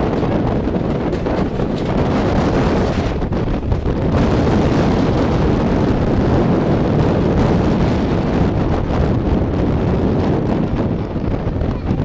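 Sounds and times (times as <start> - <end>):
moving train running noise: 0.0 - 12.0
wind buffeting microphone: 0.0 - 12.0.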